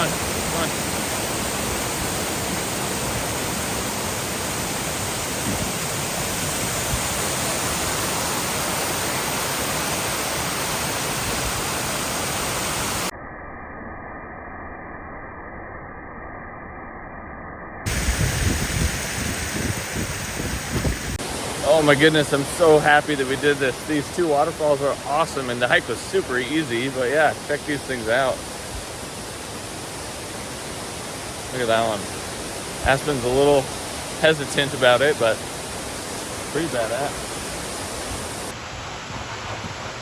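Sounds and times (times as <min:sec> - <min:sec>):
waterfall roaring: 0:00.0 - 0:13.1, 0:17.9 - 0:40.0.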